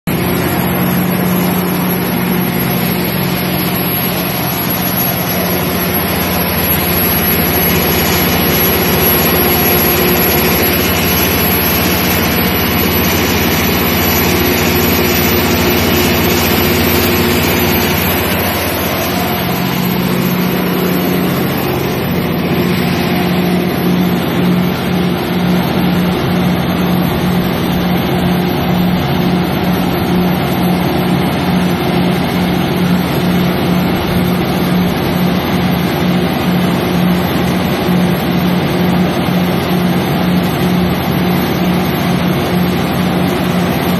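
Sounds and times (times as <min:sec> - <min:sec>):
diesel generator engine running: 0:00.1 - 0:43.9.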